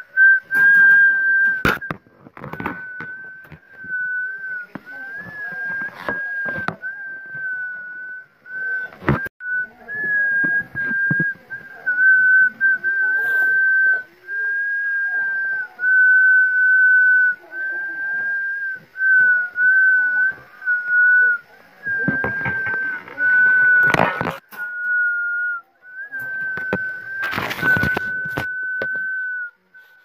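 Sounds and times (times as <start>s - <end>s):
high whistled tone: 0.0s - 30.0s.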